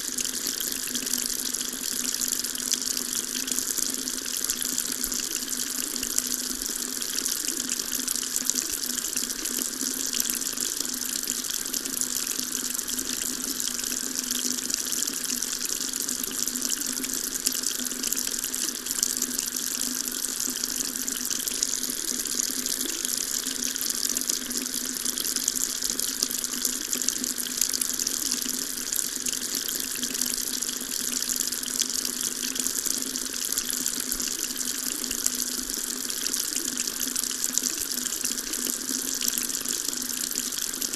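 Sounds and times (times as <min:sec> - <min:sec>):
water tap running: 0:00.0 - 0:40.9.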